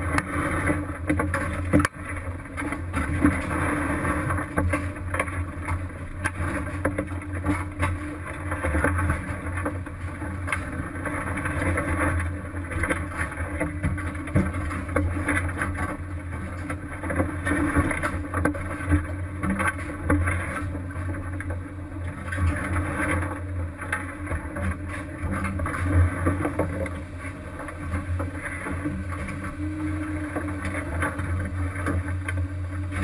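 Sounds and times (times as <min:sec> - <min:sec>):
boat engine humming: 0:00.0 - 0:33.0
water wash: 0:00.0 - 0:33.0.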